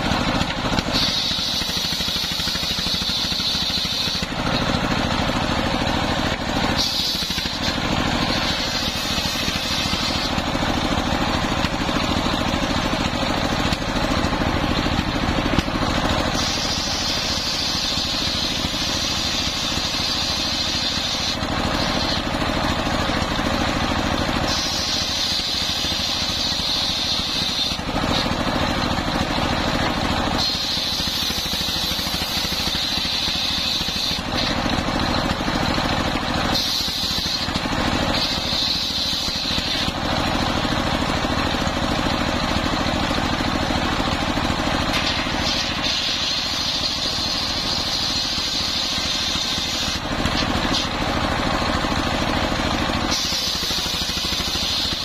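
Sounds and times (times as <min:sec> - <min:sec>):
diesel engine running: 0:00.0 - 0:55.0
saw blade whining through wood: 0:00.0 - 0:55.0.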